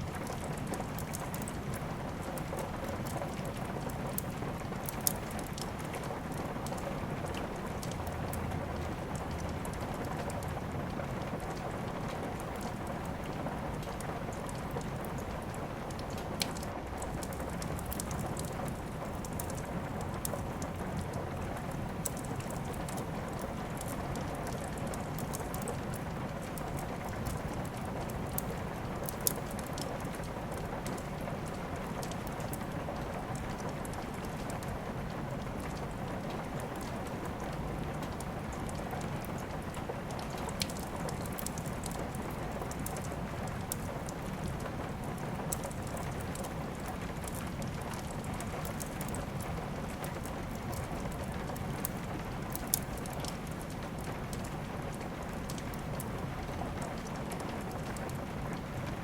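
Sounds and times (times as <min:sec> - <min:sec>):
wood fire popping: 0:00.0 - 0:58.9
steady rain hiss: 0:00.0 - 0:59.0.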